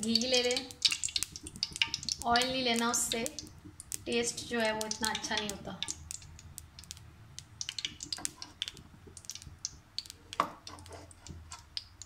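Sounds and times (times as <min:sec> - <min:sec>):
ghee crackling and popping: 0:00.0 - 0:12.0.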